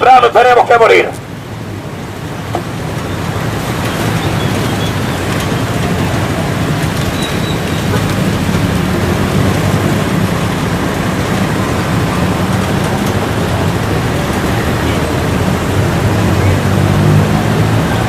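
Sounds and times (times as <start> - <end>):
loud rumbling noise with hiss: 0.0 - 18.0.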